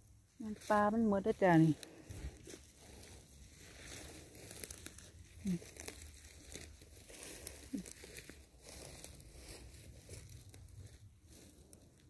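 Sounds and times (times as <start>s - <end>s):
twigs crackling underfoot: 0.0s - 12.0s.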